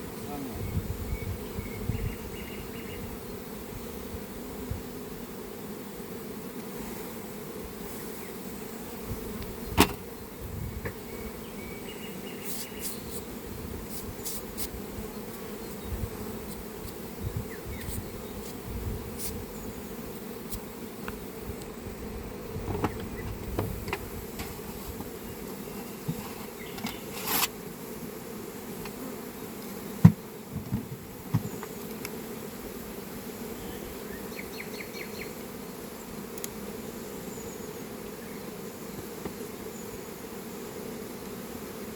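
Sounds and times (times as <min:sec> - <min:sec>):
bees buzzing: 0:00.0 - 0:41.9.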